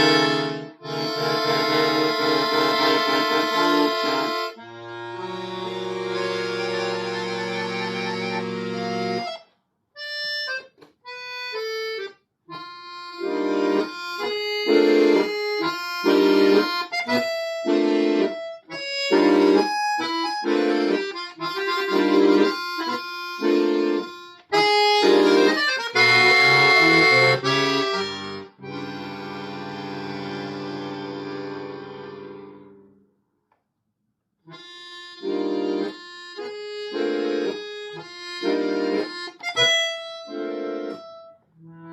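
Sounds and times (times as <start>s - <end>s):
solo accordion playing: 0.0s - 33.0s, 34.5s - 41.9s.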